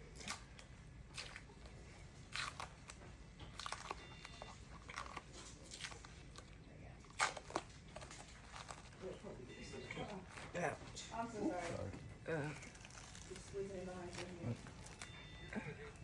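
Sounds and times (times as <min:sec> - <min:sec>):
medical tape crackling and peeling: 0:00.0 - 0:16.0.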